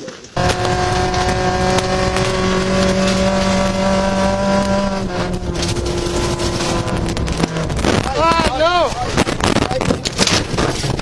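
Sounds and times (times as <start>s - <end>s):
tyres rushing on gravel: 0.0s - 11.0s
rally car engine at high revs: 0.4s - 11.0s.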